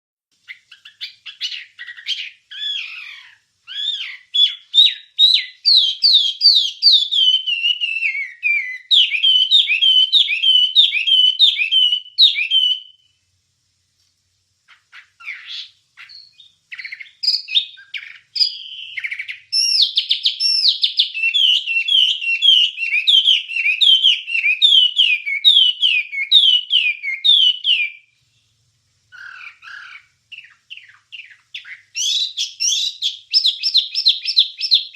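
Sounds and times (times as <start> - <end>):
bird singing whistled notes: 0.4 - 13.2, 14.7 - 28.5, 29.1 - 34.9.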